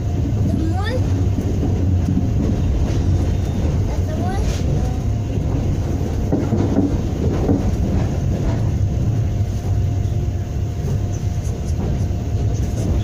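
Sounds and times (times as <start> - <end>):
train coach rumble: 0.0 - 13.0.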